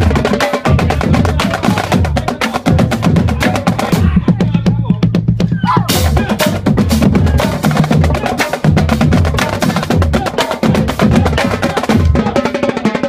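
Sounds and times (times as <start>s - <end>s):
bass drum notes: 0.0s - 12.4s
marching tenor drums: 0.0s - 13.0s.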